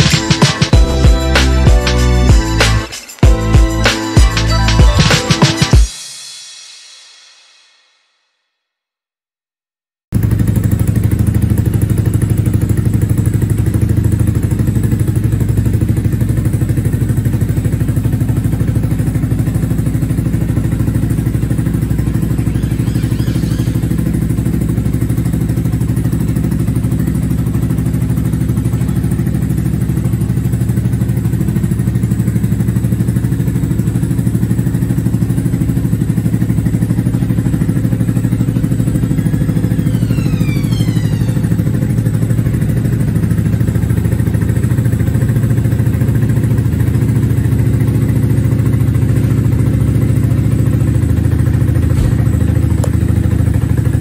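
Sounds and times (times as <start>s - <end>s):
motorcycle engine idling: 10.2s - 54.0s.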